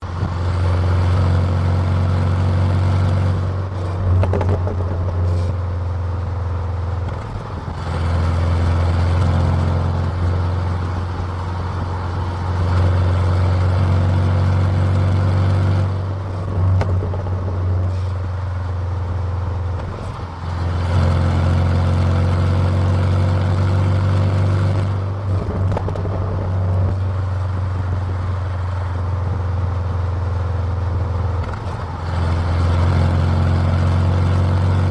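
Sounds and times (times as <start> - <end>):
car exhaust drone: 0.0 - 34.9.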